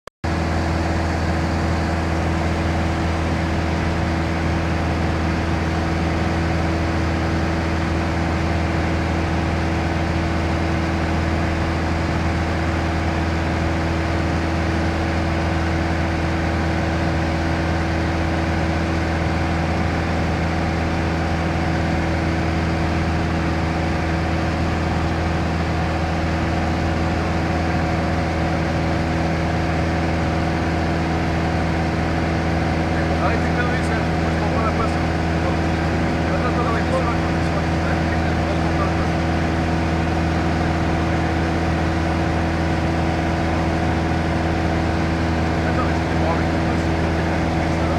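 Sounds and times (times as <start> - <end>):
propeller aircraft engine hum: 0.2 - 47.9.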